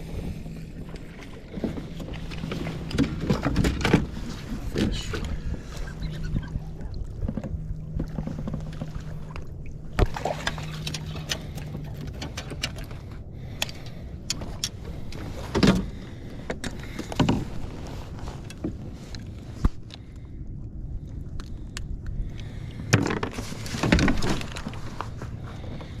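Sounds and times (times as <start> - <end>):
low hum: 0.0 - 26.0
water: 0.0 - 26.0.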